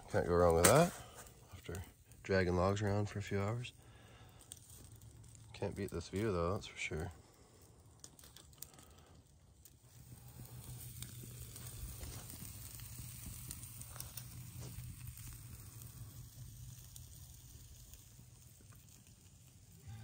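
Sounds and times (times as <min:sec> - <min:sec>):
meat sizzling on a grill: 0:00.0 - 0:20.0
wood fire crackling: 0:00.0 - 0:20.0.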